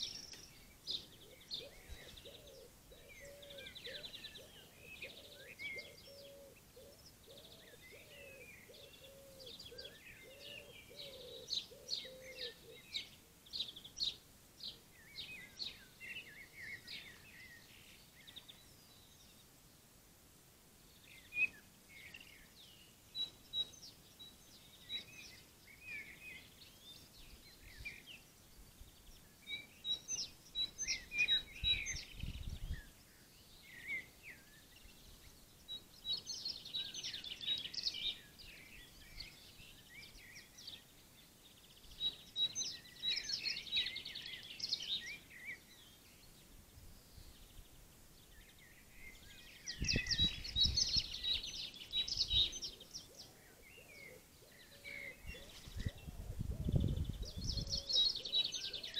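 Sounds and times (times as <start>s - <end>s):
faint outdoor noise: 0.0s - 58.9s
songbird chirps and trills: 0.0s - 58.9s.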